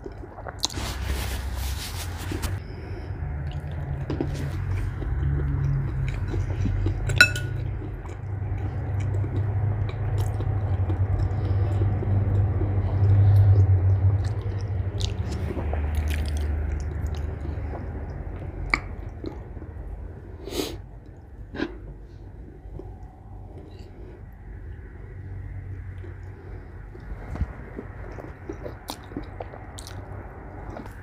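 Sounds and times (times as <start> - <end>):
close chewing and mouth sounds: 0.0 - 31.0
steady low hum: 0.0 - 31.0.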